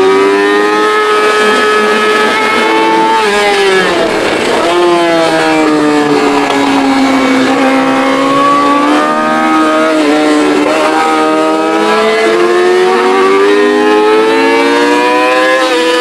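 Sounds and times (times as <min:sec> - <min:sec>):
sport bike engine revving: 0:00.0 - 0:16.0.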